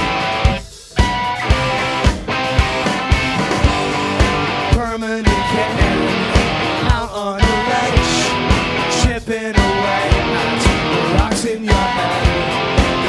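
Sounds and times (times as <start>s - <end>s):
bass guitar: 0.0s - 13.0s
electric guitar: 0.0s - 13.0s.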